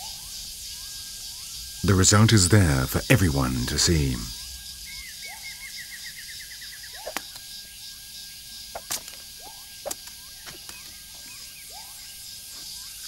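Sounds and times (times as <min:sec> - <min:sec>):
birds calling: 0:00.0 - 0:13.0
high insect hiss: 0:00.0 - 0:13.0.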